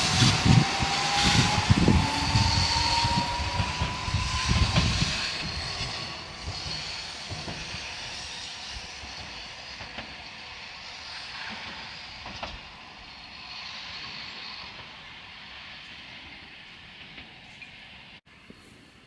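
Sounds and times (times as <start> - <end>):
tram rumbling: 0.0 - 18.2.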